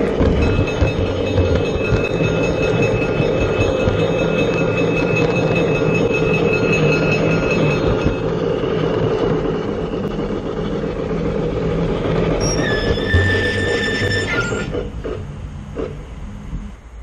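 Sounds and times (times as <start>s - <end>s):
high squeal: 0.0s - 15.0s
model steam locomotive sound: 0.0s - 17.0s
model train rolling on track: 0.0s - 17.0s.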